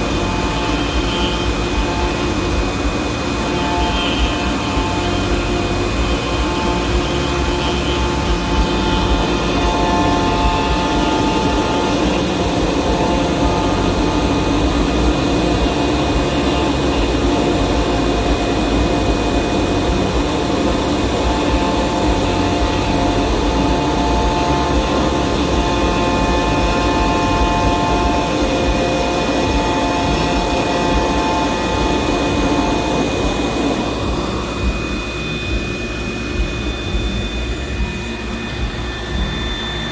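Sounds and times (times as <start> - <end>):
motor pitched tones: 0.0 - 39.9
router spindle whine: 0.0 - 39.9.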